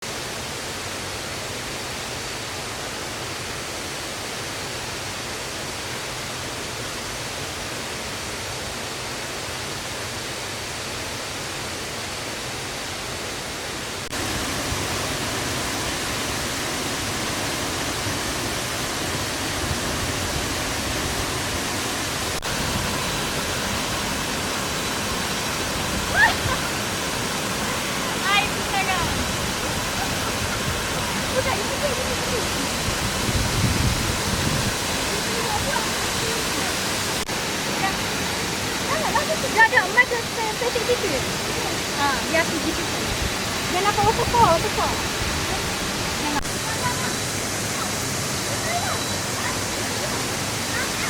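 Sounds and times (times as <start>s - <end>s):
waterfall roar: 0.1s - 51.0s.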